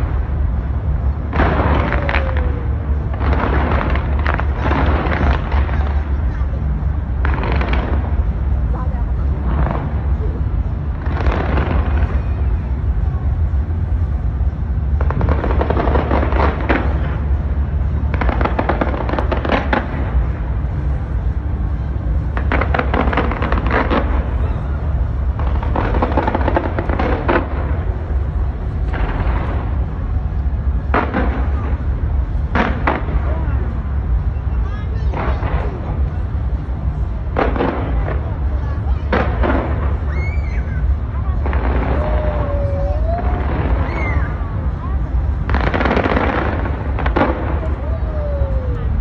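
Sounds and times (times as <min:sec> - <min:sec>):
fireworks crackling: 0:00.0 - 0:49.0
low rumble: 0:00.0 - 0:49.0.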